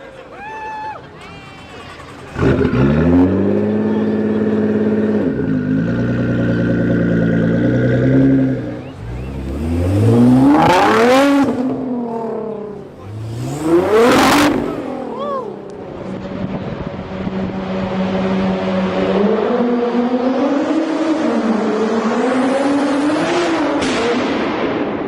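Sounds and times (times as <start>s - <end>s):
car engine accelerating hard: 2.2s - 24.7s.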